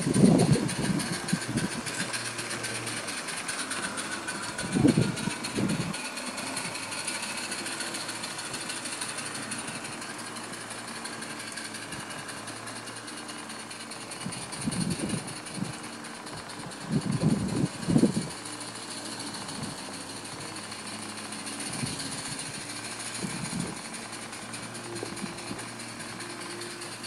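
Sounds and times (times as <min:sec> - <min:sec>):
steam locomotive beat: 0:00.0 - 0:27.0.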